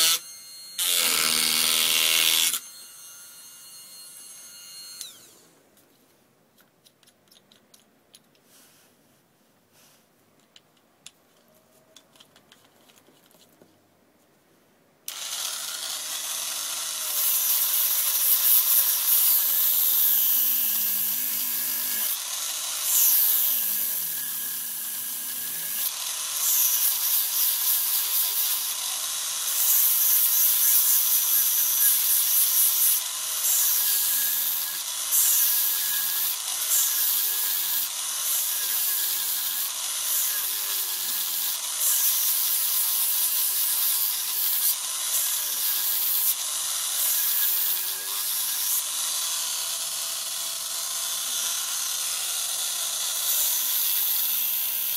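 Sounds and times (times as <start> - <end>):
sander wheel grinding wood: 0.0 - 5.4, 15.1 - 54.9.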